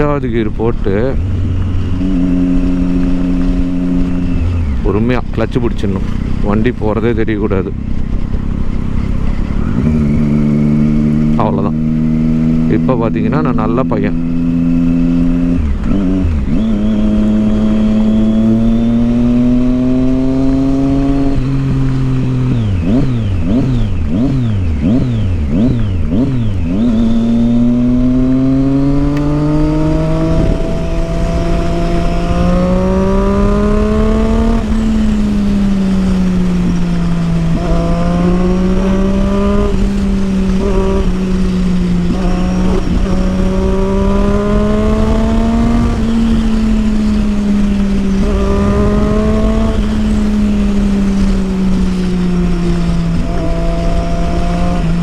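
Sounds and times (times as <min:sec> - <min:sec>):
motorcycle engine riding: 0:00.0 - 0:55.0.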